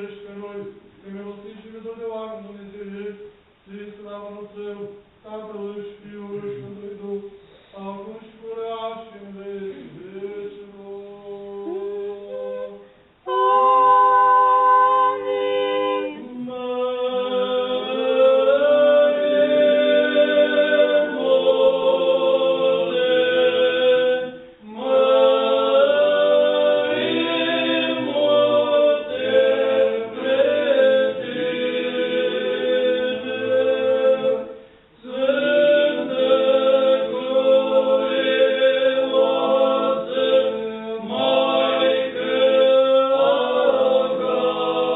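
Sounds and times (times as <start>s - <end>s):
church choir singing a hymn: 0.0s - 44.9s.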